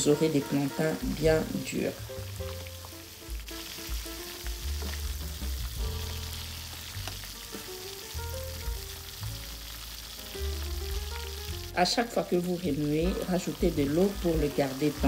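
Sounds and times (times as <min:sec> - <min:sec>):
plantain sizzling in hot oil: 0:00.0 - 0:15.0
soft background music: 0:00.0 - 0:15.0.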